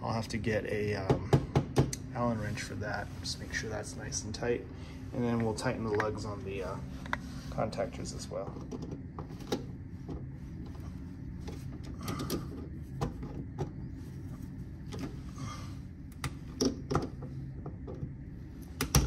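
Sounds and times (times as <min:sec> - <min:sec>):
low machinery hum: 0:00.0 - 0:19.0.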